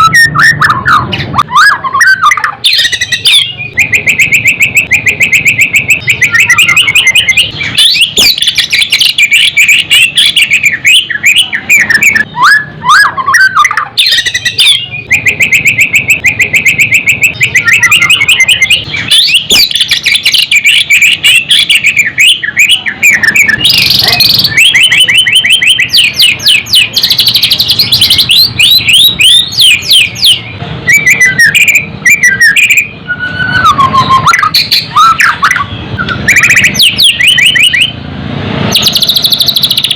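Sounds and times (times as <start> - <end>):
bird singing trills and whistles: 0.0 - 38.0, 38.7 - 39.9.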